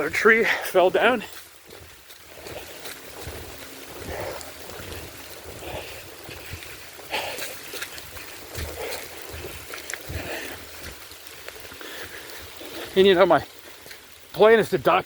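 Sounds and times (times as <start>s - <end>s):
footsteps on muddy trail: 0.0s - 15.0s
rain hissing: 0.0s - 15.0s.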